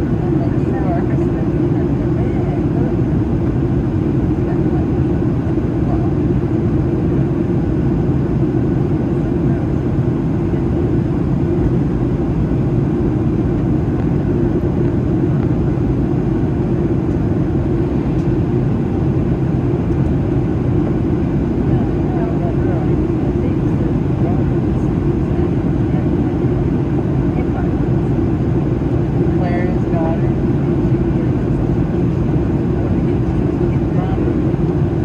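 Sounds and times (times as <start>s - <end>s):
airliner cabin rumble: 0.0s - 35.0s.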